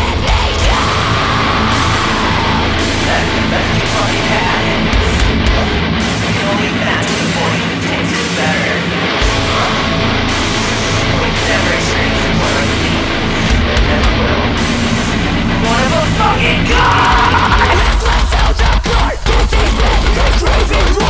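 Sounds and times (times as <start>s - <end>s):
bass guitar: 0.0s - 21.0s
distorted electric guitars: 0.0s - 21.0s
drums: 0.0s - 21.0s.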